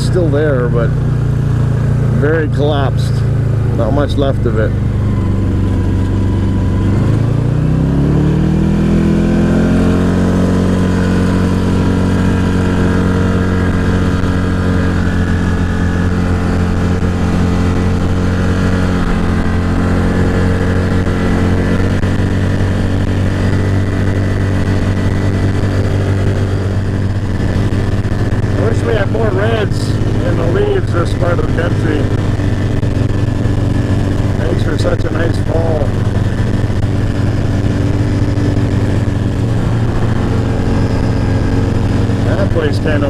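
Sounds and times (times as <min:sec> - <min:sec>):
vehicle engine accelerating: 0:00.0 - 0:43.0.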